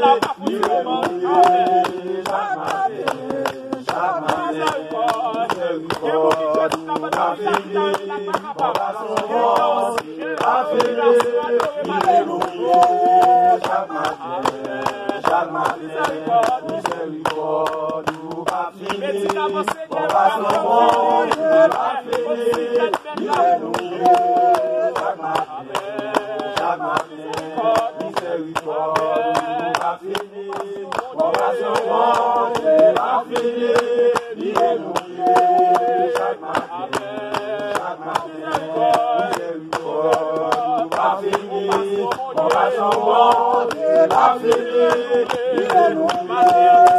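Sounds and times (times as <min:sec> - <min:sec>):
group singing: 0:00.0 - 0:46.9
hands clapping: 0:00.0 - 0:46.9.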